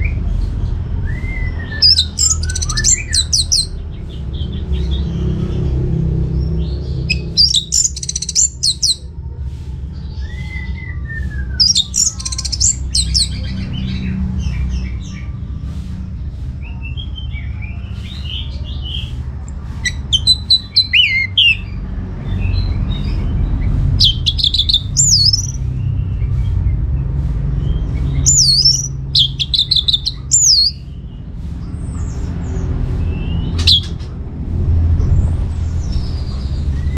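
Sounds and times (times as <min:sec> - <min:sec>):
steady low rumble: 0:00.0 - 0:36.9
thrush singing: 0:00.9 - 0:09.2, 0:10.1 - 0:26.2, 0:27.6 - 0:34.3.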